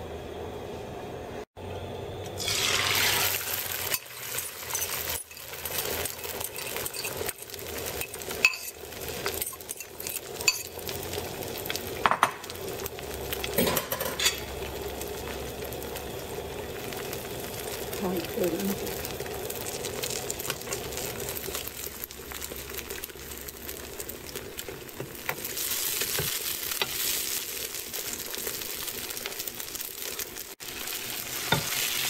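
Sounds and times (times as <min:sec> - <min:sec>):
eggs sizzling in oil: 0:02.2 - 0:32.0.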